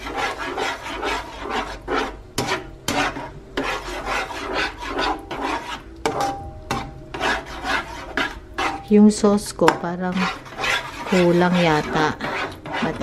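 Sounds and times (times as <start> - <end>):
utensil scraping sauce in a pan: 0.0 - 13.0.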